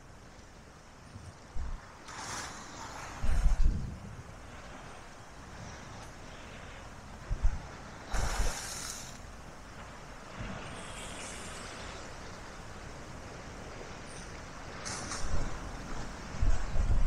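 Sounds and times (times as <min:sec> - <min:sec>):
sea waves breaking on shore: 0:00.0 - 0:17.0
wind gusting on microphone: 0:01.0 - 0:17.0.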